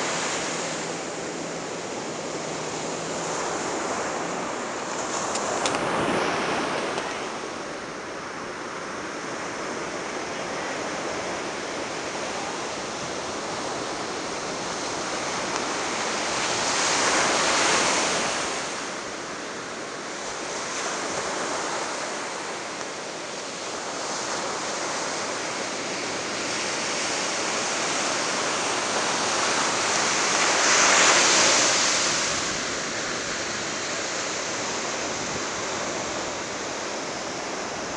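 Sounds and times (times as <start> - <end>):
ocean surf breaking on a beach: 0.0 - 37.9.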